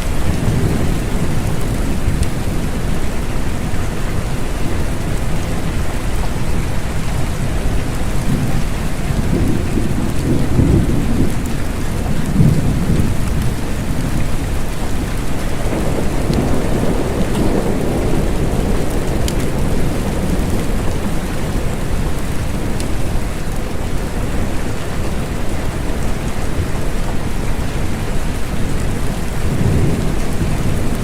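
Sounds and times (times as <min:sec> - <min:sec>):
low rolling thunder: 0:00.0 - 0:31.0
steady rain falling: 0:00.0 - 0:31.0.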